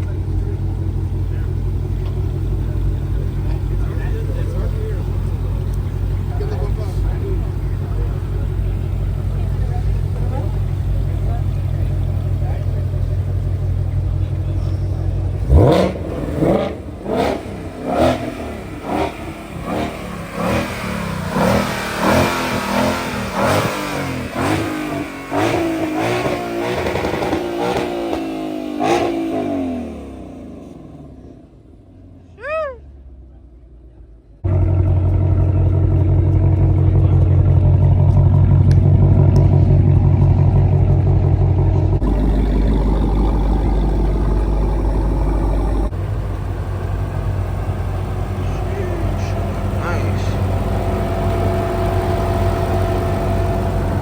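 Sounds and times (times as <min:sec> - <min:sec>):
low engine drone: 0:00.0 - 0:25.0, 0:34.4 - 0:54.0
car engines revving: 0:00.0 - 0:54.0.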